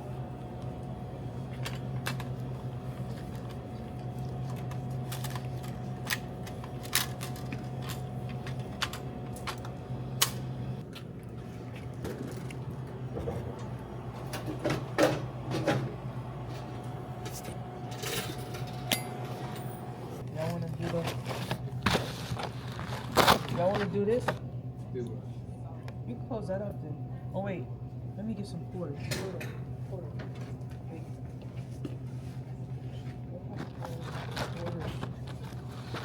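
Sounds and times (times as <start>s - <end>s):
vending machine hum: 0.0s - 36.0s.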